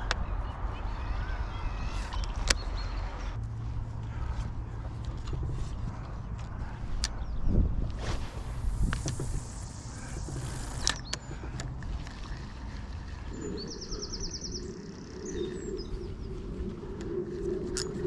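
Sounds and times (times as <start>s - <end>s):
low hum: 0.0s - 18.0s
wind rumble on microphone: 0.0s - 18.0s.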